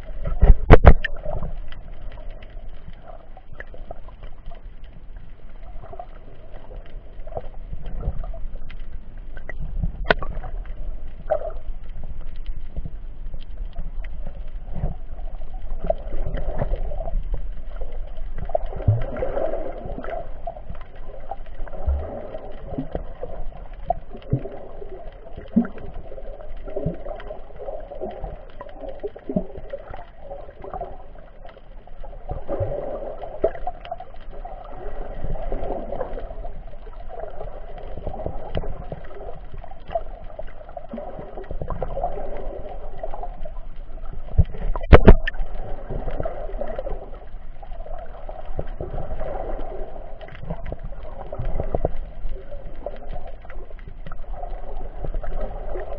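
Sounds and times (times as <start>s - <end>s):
underwater water noise: 0.0s - 55.9s
small scattered clicks: 0.1s - 55.9s.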